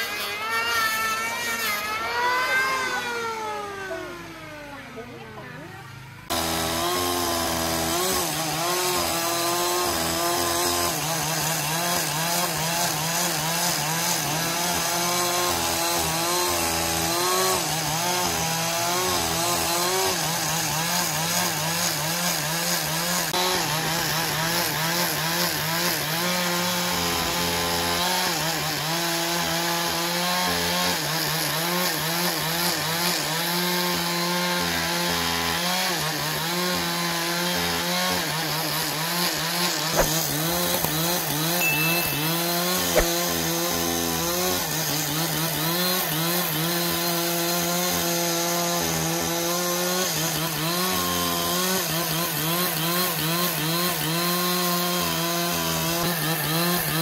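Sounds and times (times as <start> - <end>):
motor saw cutting wood: 0.0 - 5.5, 6.2 - 57.0.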